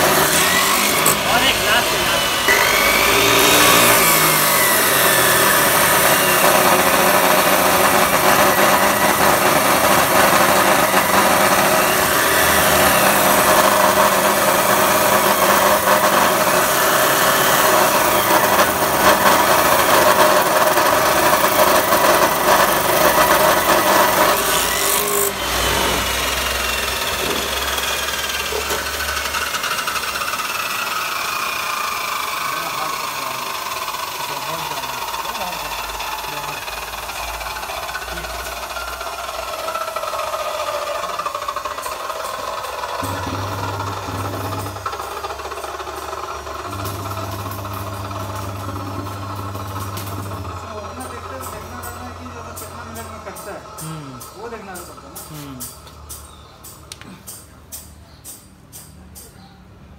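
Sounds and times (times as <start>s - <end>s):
chop saw grinding through steel: 0.0s - 55.8s.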